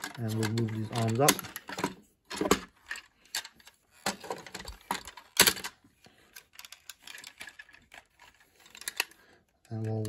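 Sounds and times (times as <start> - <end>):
plastic toy parts clicking: 0.0 - 10.0.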